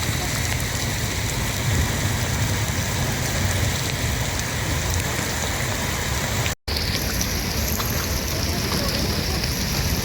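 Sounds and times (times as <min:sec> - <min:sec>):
heavy rain on hard surfaces: 0:00.0 - 0:10.0.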